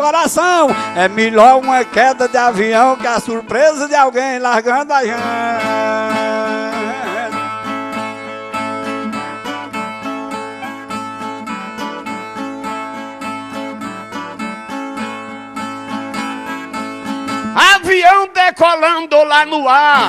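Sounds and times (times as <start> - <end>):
violas strummed rhythmically: 0.0 - 20.0.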